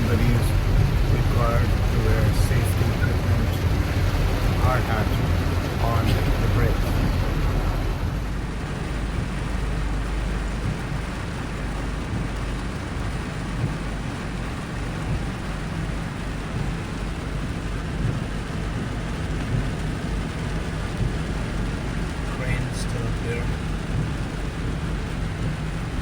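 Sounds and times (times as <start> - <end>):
deep low rumble: 0.0 - 26.0
steady rain hiss: 0.0 - 26.0.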